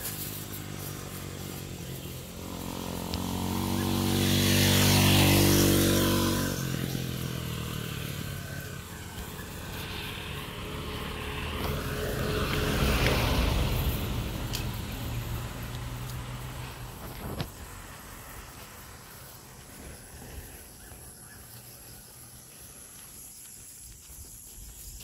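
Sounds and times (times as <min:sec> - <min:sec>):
small truck passing: 0:00.0 - 0:22.4
engine hum: 0:00.0 - 0:24.9.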